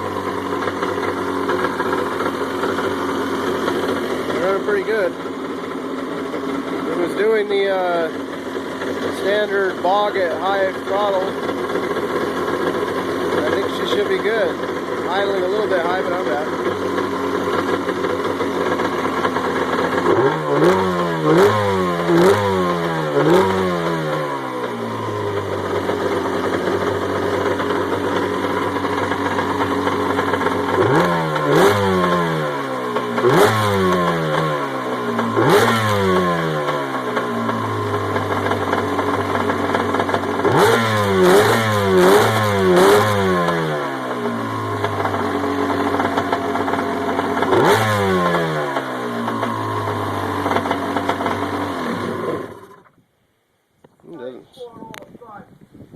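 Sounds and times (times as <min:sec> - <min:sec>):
two-stroke engine revving: 0:00.0 - 0:53.0.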